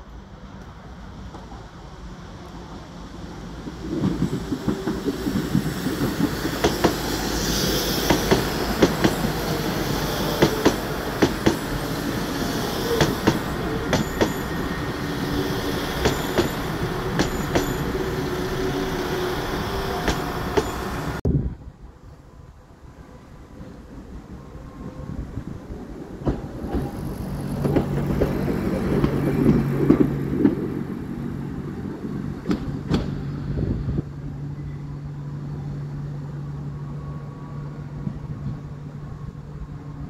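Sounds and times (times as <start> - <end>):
train engine hum: 0.0 - 40.0
train running rumble: 0.1 - 21.2, 23.6 - 40.0.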